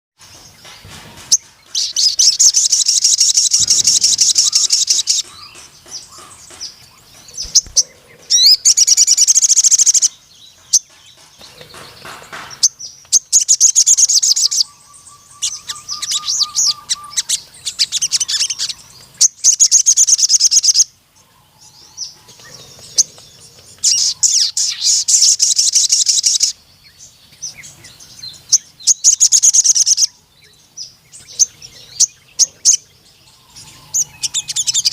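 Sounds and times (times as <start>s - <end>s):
sunbird singing high trills: 0.2s - 21.0s, 21.7s - 34.9s
soft bird chirps: 0.3s - 34.9s.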